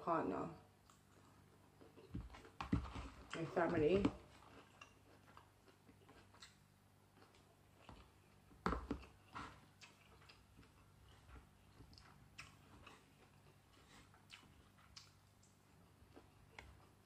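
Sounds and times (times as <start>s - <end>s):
person chewing rice: 0.8s - 3.4s, 4.1s - 17.0s.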